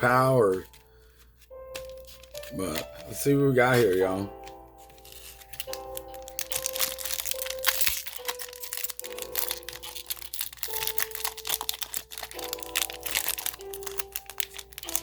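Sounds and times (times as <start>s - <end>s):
foil wrapper crinkling and tearing: 0.0s - 15.0s
mellow background music: 0.0s - 15.0s.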